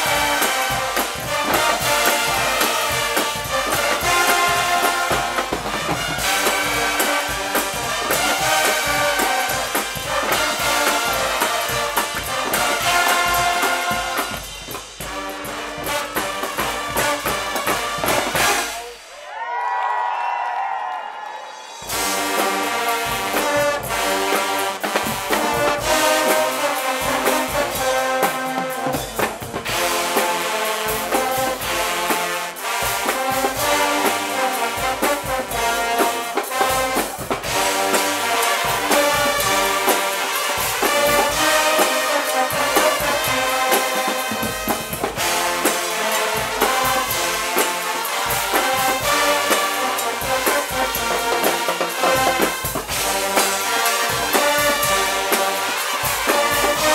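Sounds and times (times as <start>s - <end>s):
drum beat: 0.0s - 19.0s, 21.8s - 56.9s
trumpets and trombones: 0.0s - 19.2s, 21.7s - 56.9s.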